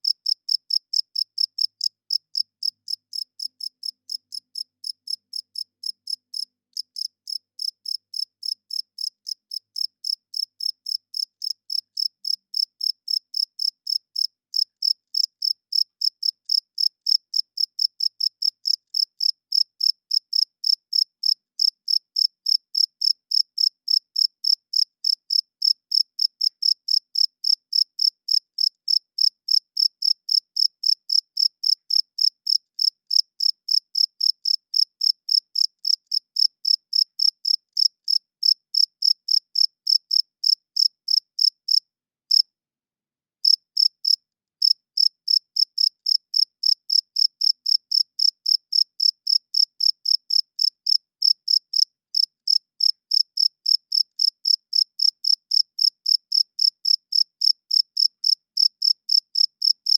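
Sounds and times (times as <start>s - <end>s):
cricket chirping: 0.0s - 42.4s, 43.4s - 59.9s.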